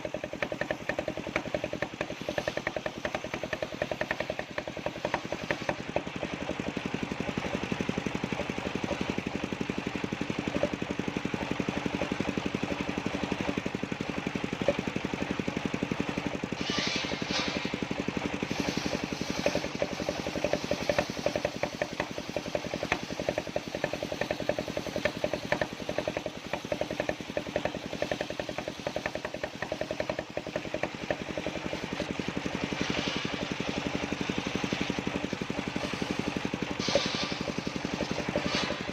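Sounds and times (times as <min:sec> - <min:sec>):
circular saw rig engine running: 0:00.0 - 0:38.9.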